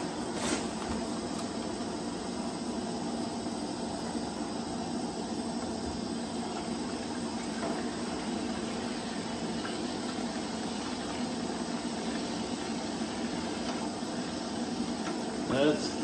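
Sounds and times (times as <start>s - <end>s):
camp stove burner rushing: 0.0s - 16.0s.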